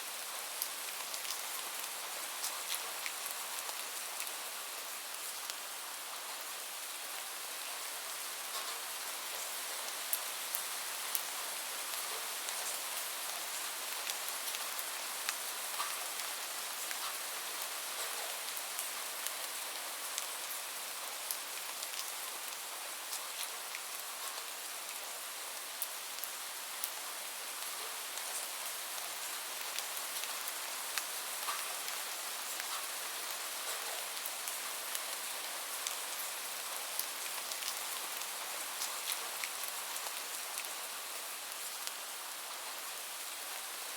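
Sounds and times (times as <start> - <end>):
light rain hissing: 0.0 - 43.9.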